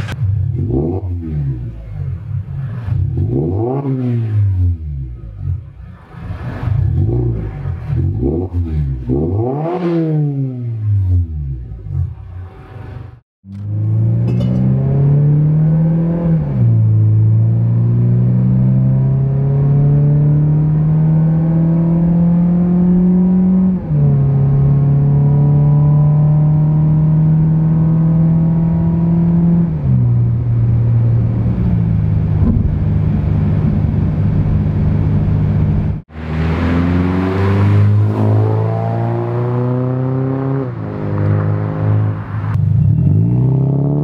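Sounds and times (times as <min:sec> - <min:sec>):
car exhaust accelerating: 0:00.0 - 0:44.0.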